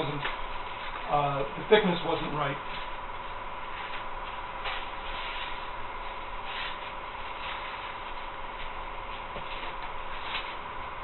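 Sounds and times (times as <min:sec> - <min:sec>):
faint high hum: 0:00.0 - 0:11.0
steady hiss: 0:00.0 - 0:11.0.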